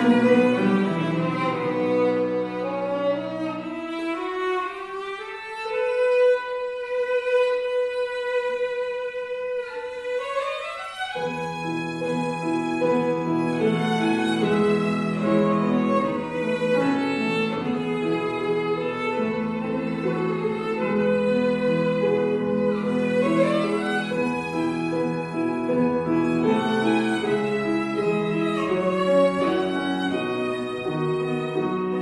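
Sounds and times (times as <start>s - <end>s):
piano accompaniment: 0.0s - 32.0s
violin melody: 0.0s - 32.0s.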